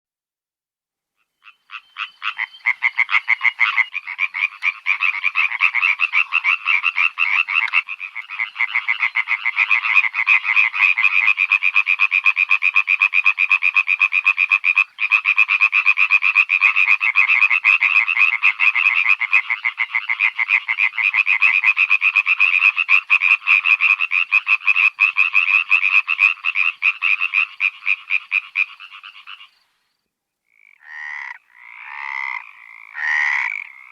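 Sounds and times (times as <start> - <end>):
frogs croaking in chorus: 1.2 - 33.9.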